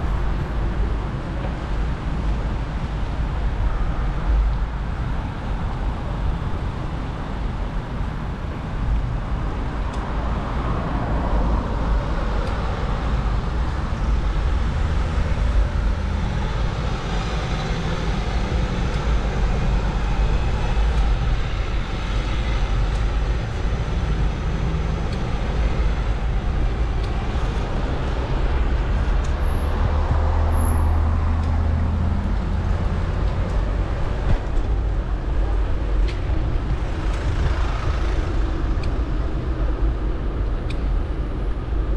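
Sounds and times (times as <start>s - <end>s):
road and traffic noise: 0.0s - 41.9s
wind rumble on microphone: 0.0s - 41.9s.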